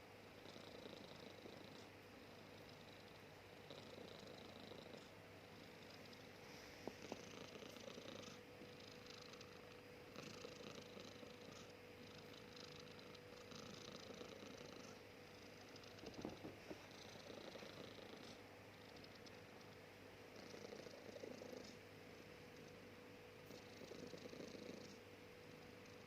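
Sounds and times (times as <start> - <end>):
faint raspy snoring: 0.4 - 19.2, 20.3 - 21.8, 23.5 - 26.0.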